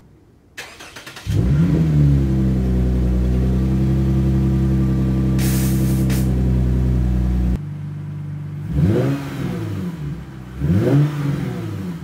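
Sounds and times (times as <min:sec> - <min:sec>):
car engine starting and idling: 0:00.4 - 0:12.0.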